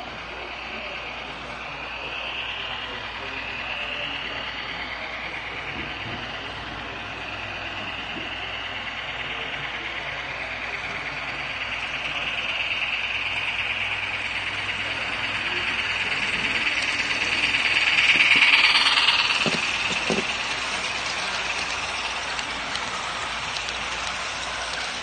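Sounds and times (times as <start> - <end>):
model train steam sounds from speaker: 0.0 - 25.0
model train wheels rolling on track: 0.0 - 25.0.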